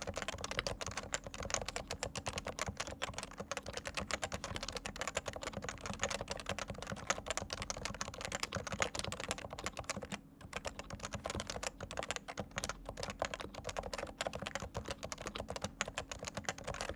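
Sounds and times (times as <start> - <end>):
fast keyboard typing: 0.0 - 16.9.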